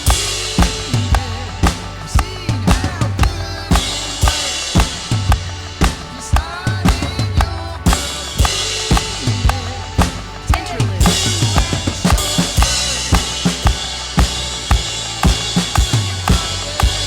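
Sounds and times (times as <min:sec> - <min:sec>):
drum kit playing: 0:00.0 - 0:17.0
worship band instrumental: 0:00.0 - 0:17.0.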